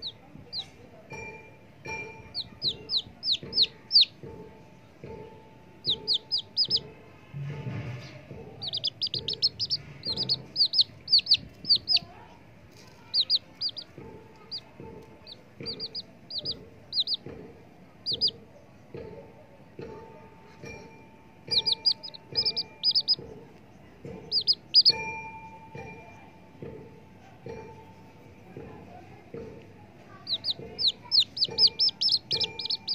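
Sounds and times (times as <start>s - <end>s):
baby chicks peeping: 0.0s - 32.9s.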